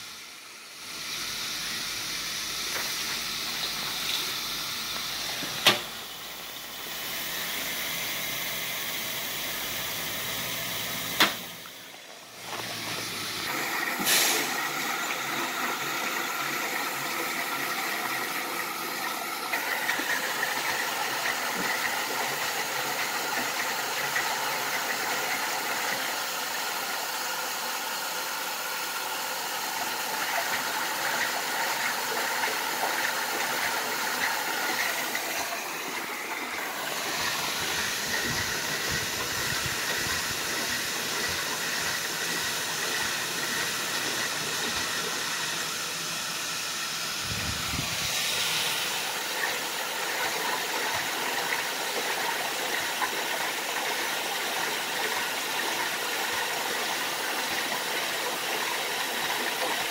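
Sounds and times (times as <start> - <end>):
water hissing into washing machine: 0.0 - 59.9.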